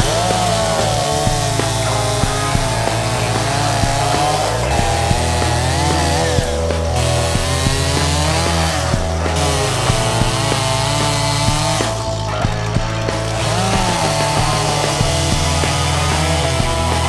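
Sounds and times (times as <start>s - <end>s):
background music with beat: 0.0s - 17.0s
chainsaw cutting wood: 0.0s - 17.0s.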